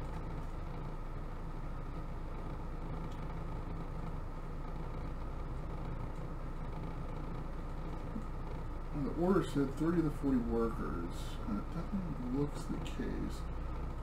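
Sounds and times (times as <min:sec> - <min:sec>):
low rumble with hiss: 0:00.0 - 0:14.0.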